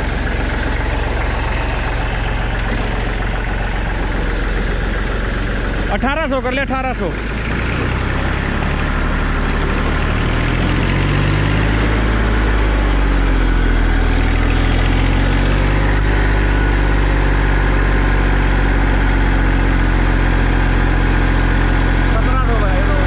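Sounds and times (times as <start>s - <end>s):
tractor diesel engine: 0.0s - 23.0s.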